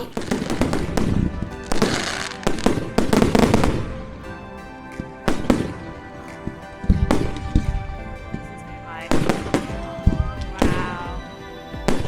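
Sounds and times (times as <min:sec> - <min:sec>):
fireworks bangs: 0:00.0 - 0:12.0
music playing: 0:00.0 - 0:12.0.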